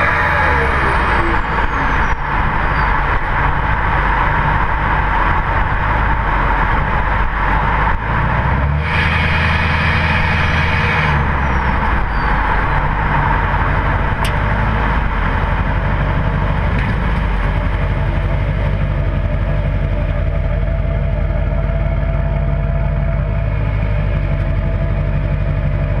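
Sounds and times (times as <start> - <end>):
diesel engine running: 0.0 - 26.0
turbo whine: 0.0 - 26.0.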